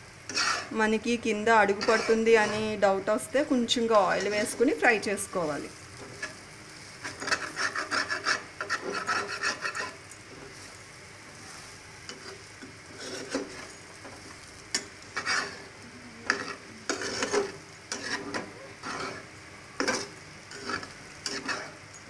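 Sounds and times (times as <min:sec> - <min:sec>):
light sizzle of frying: 0:00.0 - 0:22.0
spatula scraping frying pan: 0:00.2 - 0:00.8, 0:01.6 - 0:10.8, 0:11.5 - 0:21.9.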